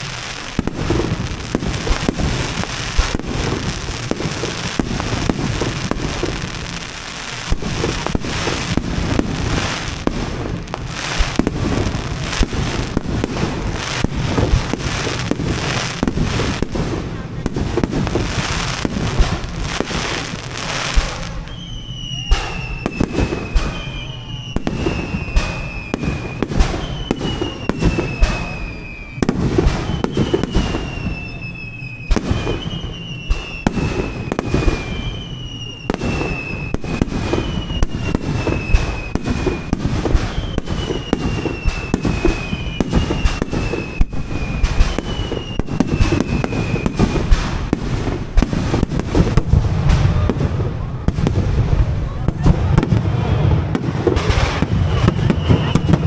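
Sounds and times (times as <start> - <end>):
fireworks bangs and cracks: 0.0 - 56.0.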